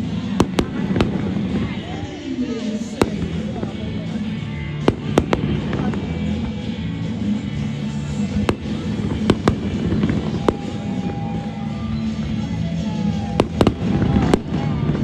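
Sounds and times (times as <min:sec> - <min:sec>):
background music: 0:00.0 - 0:15.0
fireworks bangs: 0:00.0 - 0:15.0.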